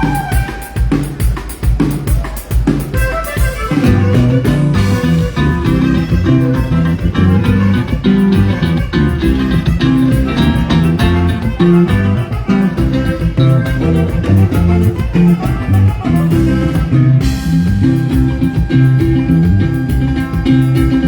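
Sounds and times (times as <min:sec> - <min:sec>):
live band dance music: 0:00.0 - 0:21.0.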